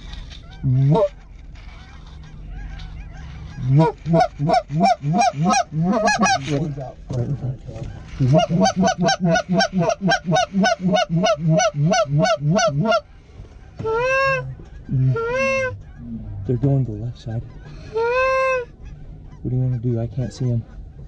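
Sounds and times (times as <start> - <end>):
goose call clucking: 0.0 - 16.6, 17.2 - 20.9.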